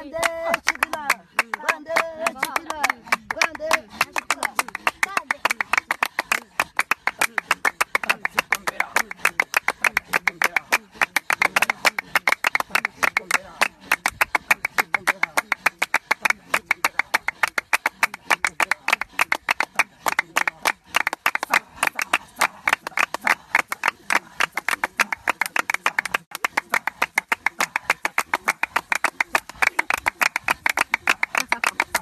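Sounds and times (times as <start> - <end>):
women clapping cupped hands: 0.0 - 32.0.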